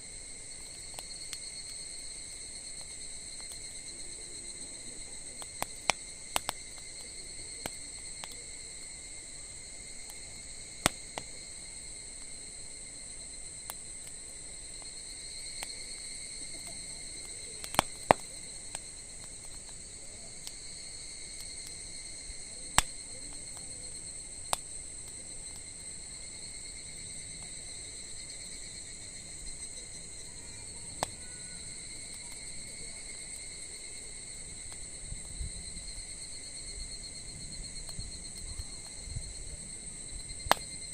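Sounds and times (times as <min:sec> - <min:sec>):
crickets chirping: 0:00.0 - 0:40.9
wood fire crackling and popping: 0:00.0 - 0:40.9.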